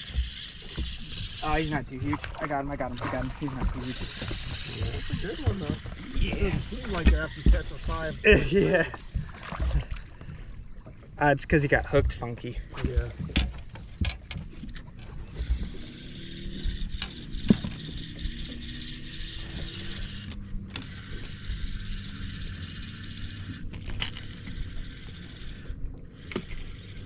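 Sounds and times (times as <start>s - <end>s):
reel clicks: 0.0s - 8.3s, 12.8s - 27.0s
fishing reel cranking whir: 0.0s - 9.2s, 12.8s - 27.0s.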